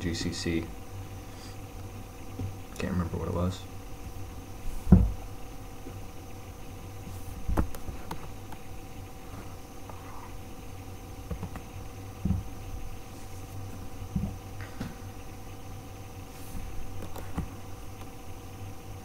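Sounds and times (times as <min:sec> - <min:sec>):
computer electrical hum: 0:00.0 - 0:19.0.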